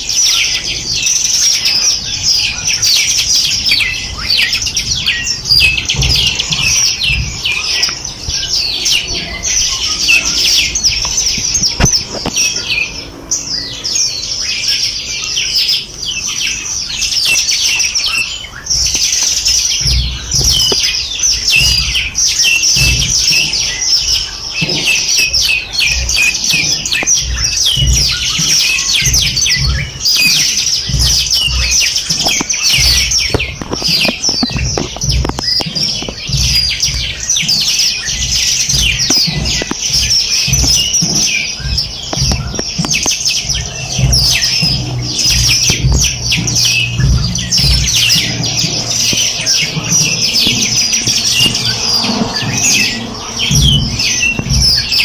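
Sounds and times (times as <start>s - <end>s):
many small birds chirping: 0.0s - 55.0s
low uneven rumble: 0.6s - 15.1s, 18.5s - 55.0s.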